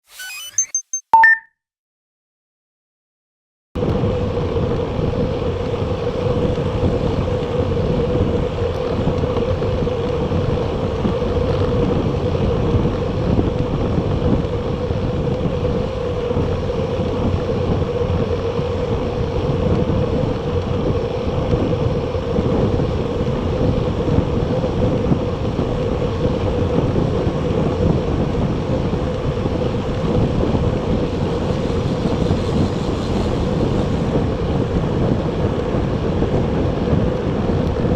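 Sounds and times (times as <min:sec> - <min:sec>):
wind rushing on microphone: 0:03.8 - 0:37.9.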